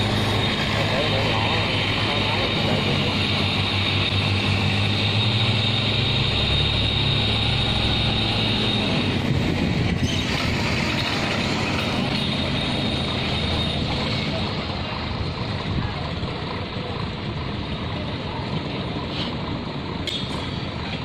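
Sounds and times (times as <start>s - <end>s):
diesel boat engine droning: 0.0s - 21.0s.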